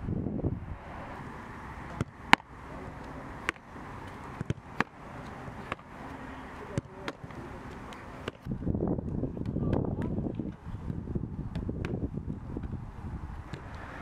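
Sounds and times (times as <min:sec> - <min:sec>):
steady background hum: 0:00.0 - 0:14.0
footballs being kicked: 0:01.9 - 0:12.8, 0:13.4 - 0:13.9.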